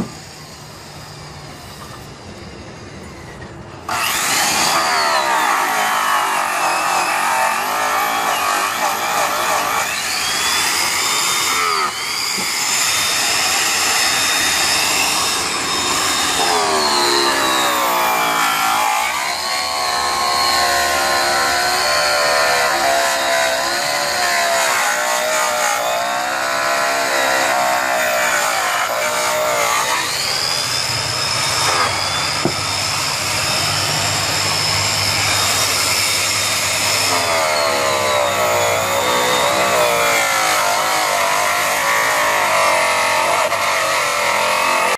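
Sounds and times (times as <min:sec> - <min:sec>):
polisher motor whine: 0:00.0 - 0:44.9.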